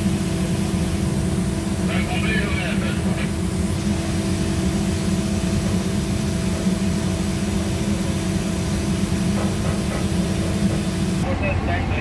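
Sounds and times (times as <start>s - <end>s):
low machinery drone: 0.0s - 12.0s.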